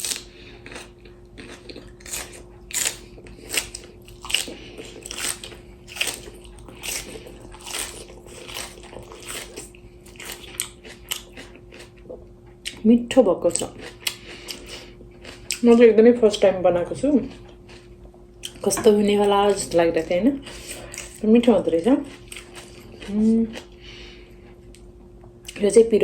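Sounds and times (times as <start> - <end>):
crunchy bites and wet chewing: 0.0 - 12.8, 13.5 - 15.9, 17.2 - 18.7, 20.4 - 21.3, 22.0 - 25.6
faint steady hum: 0.0 - 26.0.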